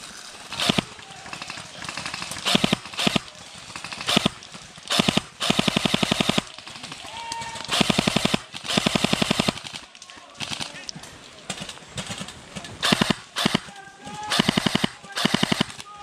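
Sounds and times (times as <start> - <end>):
airsoft rifle firing bursts: 0.4 - 10.9, 11.5 - 16.0.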